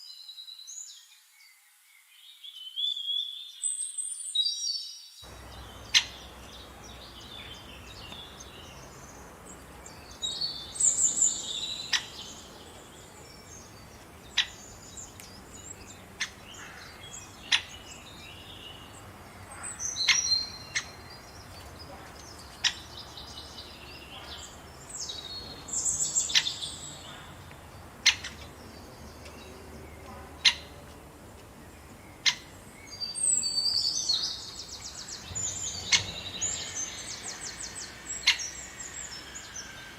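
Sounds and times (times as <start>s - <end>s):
faint outdoor background: 0.0s - 39.9s
birds chirping: 4.3s - 39.9s.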